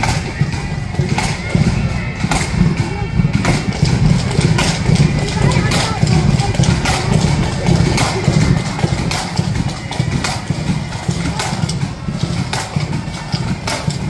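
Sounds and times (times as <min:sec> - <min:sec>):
bass drum march beat: 0:00.0 - 0:14.0
sharp drum or cymbal hits: 0:00.0 - 0:14.0.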